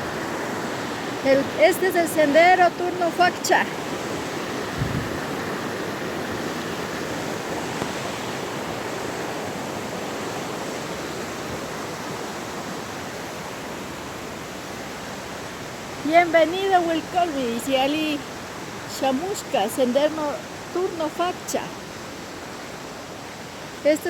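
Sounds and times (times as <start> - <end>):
rushing river and waterfall: 0.0 - 24.0.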